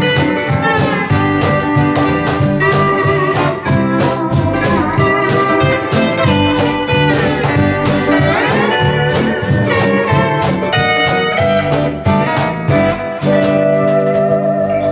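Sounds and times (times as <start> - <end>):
bass: 0.0 - 14.9
percussion: 0.0 - 14.9
rhythm guitar: 0.0 - 14.9
steel guitar melody: 0.0 - 14.9
ukulele strumming: 0.0 - 14.9.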